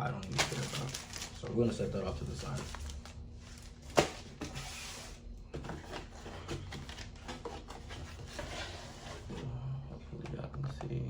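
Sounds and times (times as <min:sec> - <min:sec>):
packaging and papers rustling: 0:00.0 - 0:09.4.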